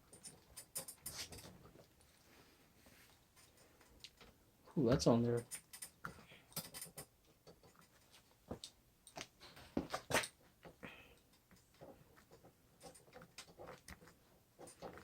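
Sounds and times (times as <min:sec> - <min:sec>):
small clicks and knocks of parts: 0:00.0 - 0:02.1, 0:03.1 - 0:15.0.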